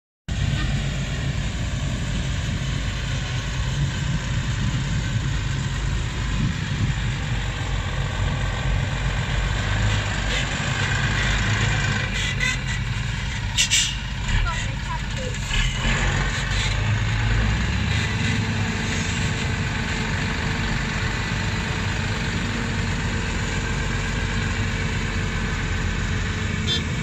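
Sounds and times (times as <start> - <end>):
heavy diesel engines droning: 0.3 - 27.0
truck driving off: 0.3 - 27.0.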